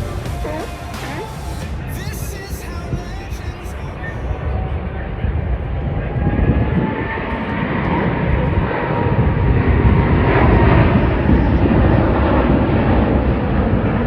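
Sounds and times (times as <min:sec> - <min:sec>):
jet aircraft roar overhead: 0:00.0 - 0:14.0.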